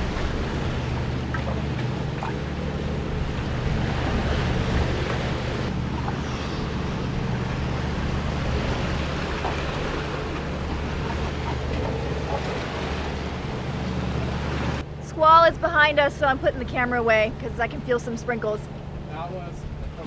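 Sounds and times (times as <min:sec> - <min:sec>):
low rumble: 0:00.0 - 0:18.0
rough sea rushing: 0:00.0 - 0:20.0
wind: 0:00.0 - 0:20.0.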